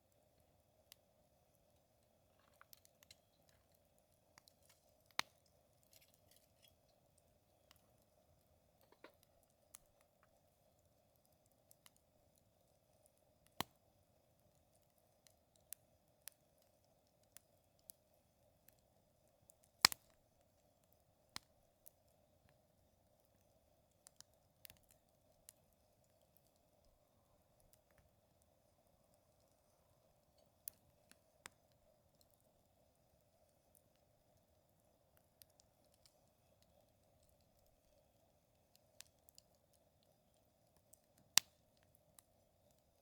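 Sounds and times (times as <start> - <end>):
campfire wood crackling: 0.0 - 43.0.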